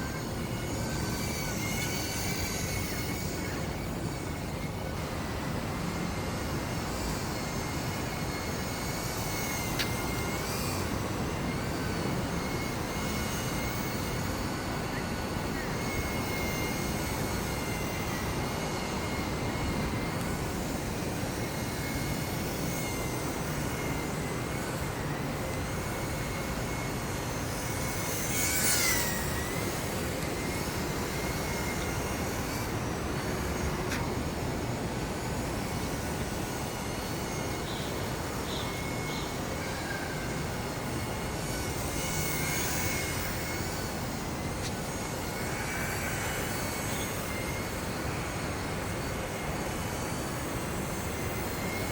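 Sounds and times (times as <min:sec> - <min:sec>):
model plane motor whine: 0:00.0 - 0:51.9.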